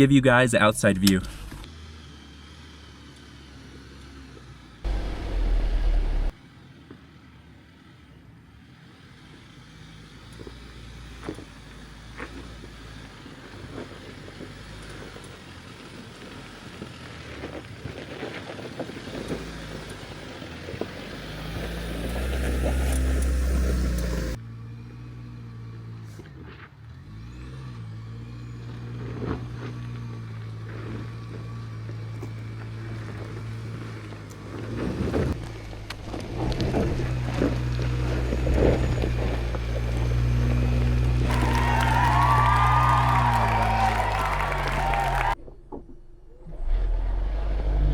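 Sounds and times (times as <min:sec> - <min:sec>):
engine running at low revs: 0:01.2 - 0:06.4, 0:08.0 - 0:45.4, 0:46.2 - 0:47.9.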